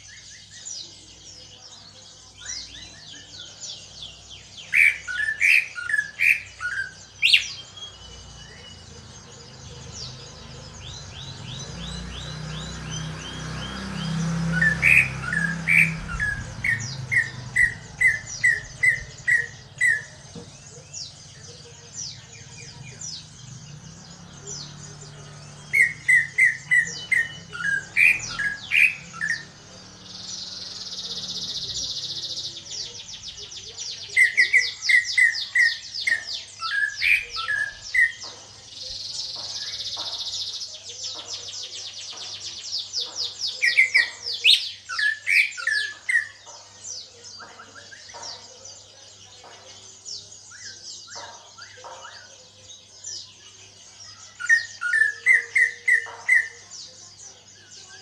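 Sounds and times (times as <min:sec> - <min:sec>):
bird singing sharp notes: 0:02.3 - 0:58.0.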